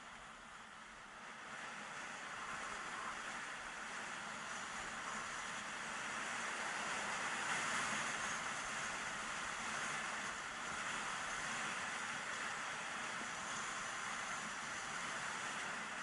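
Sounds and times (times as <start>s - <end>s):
skis sliding over snow: 1.9s - 16.0s.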